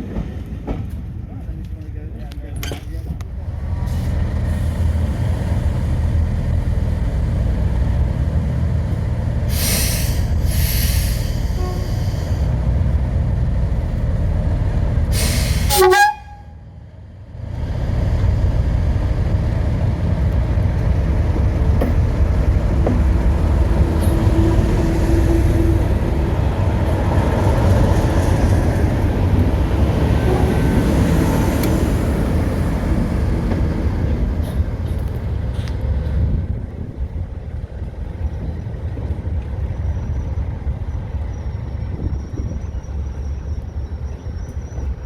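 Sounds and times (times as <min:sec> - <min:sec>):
diesel locomotive rumbling: 0:00.0 - 0:45.0.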